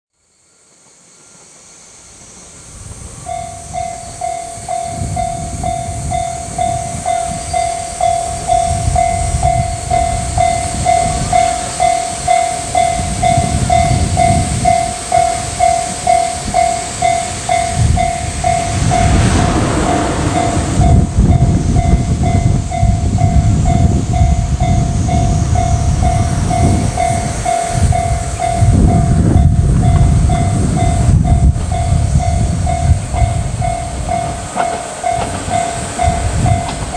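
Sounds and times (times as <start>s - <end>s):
railcar engine and wheel rumble: 0.2s - 36.9s
level crossing alarm bell: 3.3s - 19.3s, 20.9s - 36.9s.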